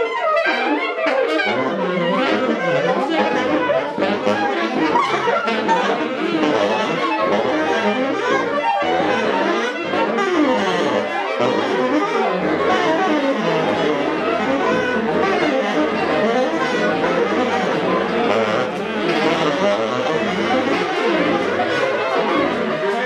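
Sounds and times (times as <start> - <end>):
overlapping instrument notes: 0.0 - 23.0.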